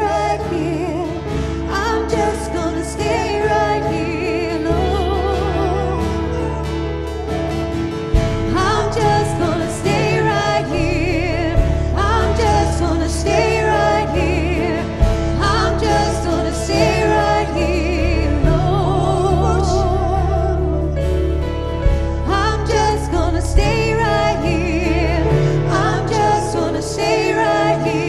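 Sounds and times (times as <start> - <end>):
sustained low bass: 0.0 - 28.0
women singing with vibrato: 0.0 - 28.0.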